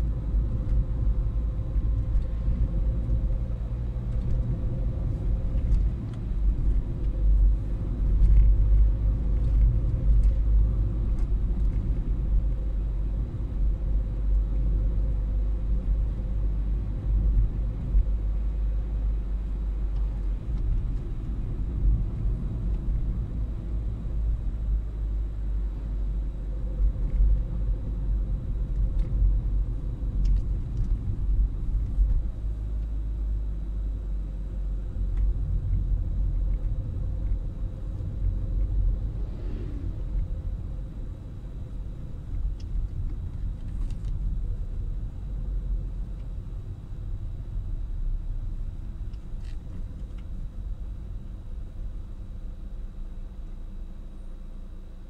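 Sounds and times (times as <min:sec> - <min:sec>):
car interior road rumble: 0:00.0 - 0:55.0
faint steady hum: 0:00.0 - 0:55.0.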